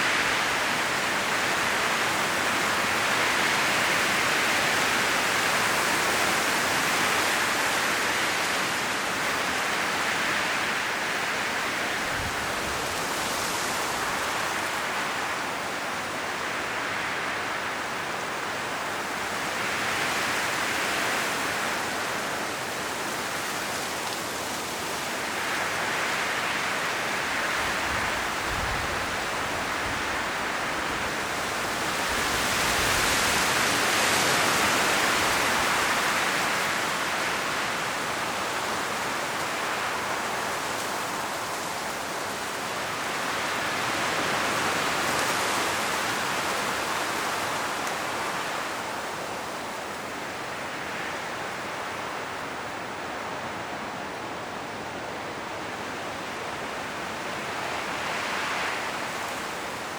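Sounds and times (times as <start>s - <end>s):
leaves rustling: 0.0s - 59.9s
strong wind gusting through trees: 0.0s - 59.9s.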